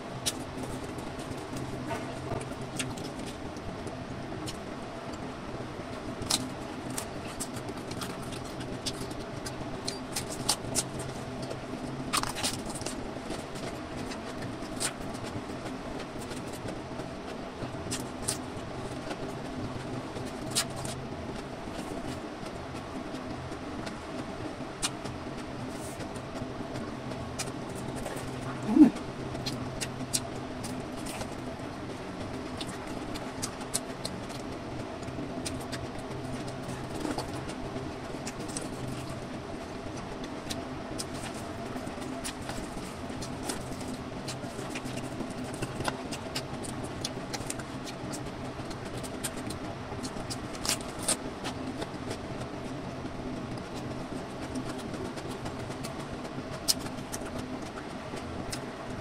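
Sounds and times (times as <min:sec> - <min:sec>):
chewing and crunching food: 0:00.0 - 0:59.0
machine-like hum: 0:00.0 - 0:59.0.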